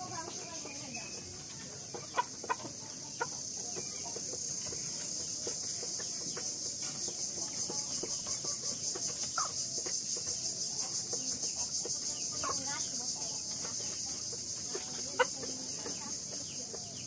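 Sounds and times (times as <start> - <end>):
chickens clucking softly: 0.0 - 17.0
pulsing insect chirring: 0.0 - 17.0.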